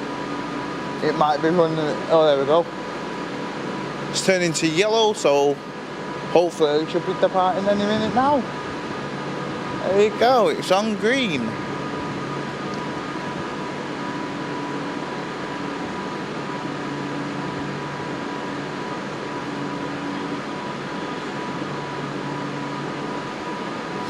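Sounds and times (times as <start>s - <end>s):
electric train humming: 0.0s - 24.0s
ventilation equipment drone: 0.0s - 24.0s.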